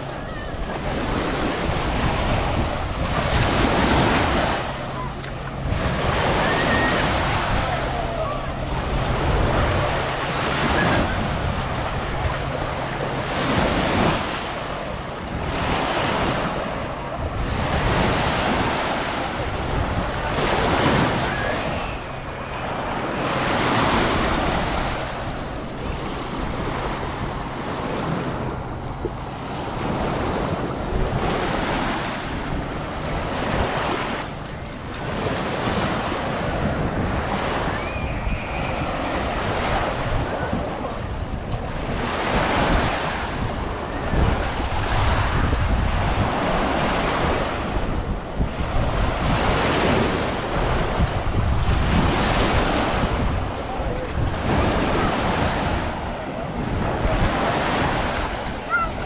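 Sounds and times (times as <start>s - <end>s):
sea waves on sandy beach: 0.0s - 59.0s
wind buffeting microphone: 0.0s - 59.0s.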